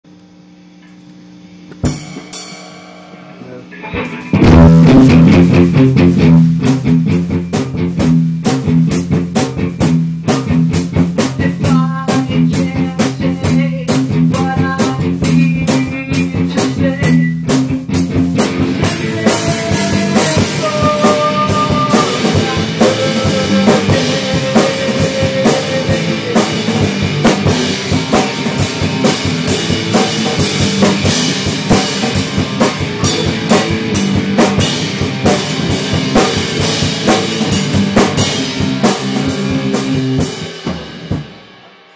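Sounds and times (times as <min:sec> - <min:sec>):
drum kit beat: 0:01.7 - 0:41.9
instrumental rock music: 0:01.7 - 0:41.9.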